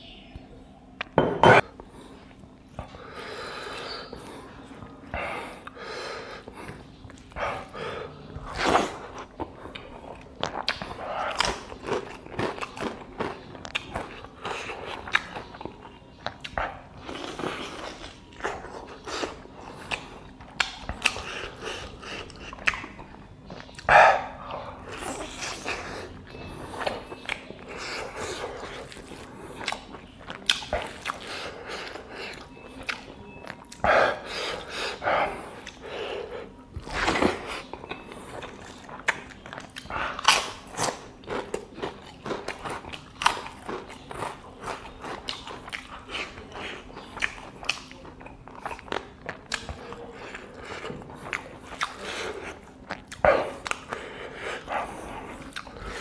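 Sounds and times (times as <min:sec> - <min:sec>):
chewing and biting: 0:06.4 - 0:56.0.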